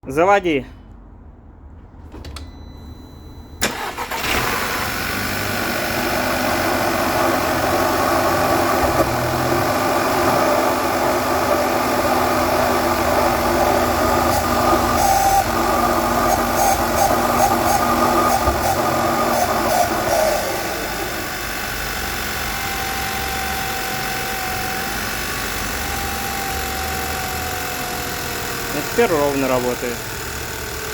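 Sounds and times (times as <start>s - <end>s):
car engine starting: 3.5s - 30.9s
car engine idling irregularly: 3.7s - 30.9s.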